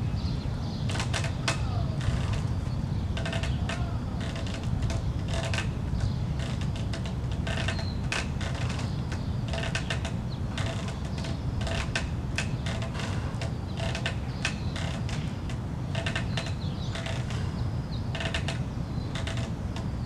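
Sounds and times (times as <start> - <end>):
straps creaking and squeaking: 0.3 - 20.0.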